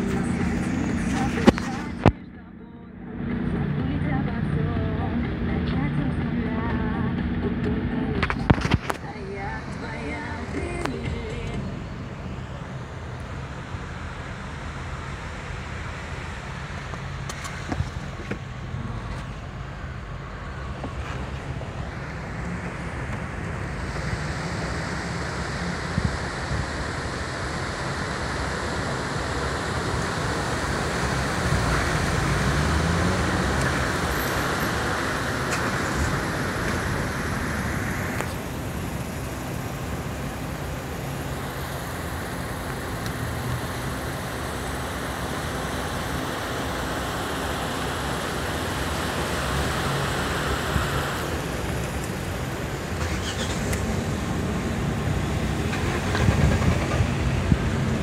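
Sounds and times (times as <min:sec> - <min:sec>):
car engines running: 0:00.0 - 0:58.0.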